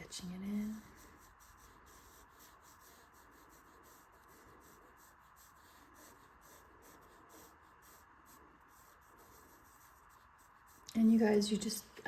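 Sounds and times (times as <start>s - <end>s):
pencil scratching on paper: 0.0s - 11.7s.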